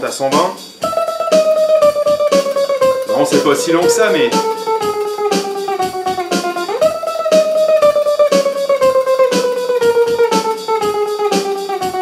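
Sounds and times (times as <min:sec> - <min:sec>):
electric guitar tremolo picking: 0:00.8 - 0:12.0.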